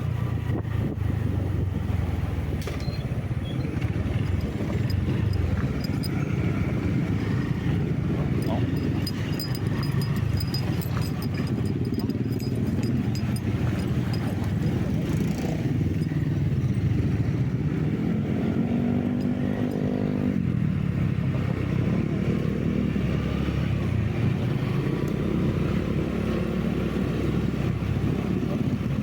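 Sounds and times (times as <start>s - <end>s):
road noise: 0.0s - 29.0s
vehicle engine running: 0.0s - 29.0s.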